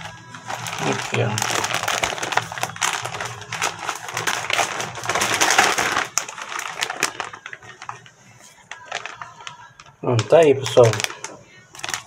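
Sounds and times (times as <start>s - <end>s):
plastic crinkling and rustling: 0.0s - 12.0s.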